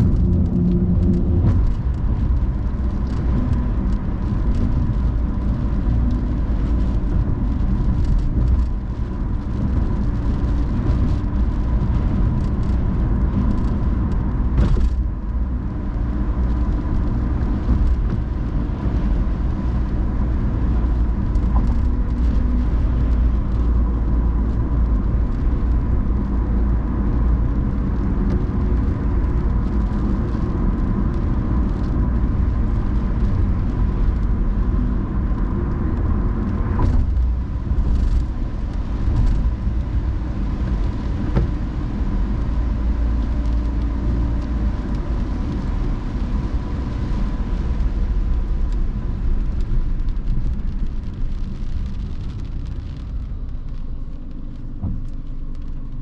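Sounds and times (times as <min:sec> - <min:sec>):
car road and engine rumble: 0:00.0 - 0:56.0
rain ticking: 0:00.0 - 0:56.0.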